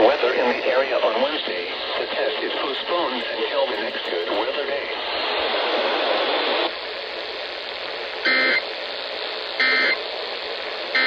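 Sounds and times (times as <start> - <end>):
radio static hissing: 0.0 - 11.0.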